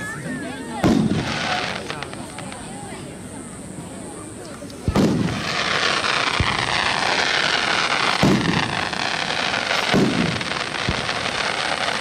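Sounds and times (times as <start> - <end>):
steady hiss: 0.0 - 12.0
fireworks bursting: 0.2 - 3.2, 4.4 - 12.0.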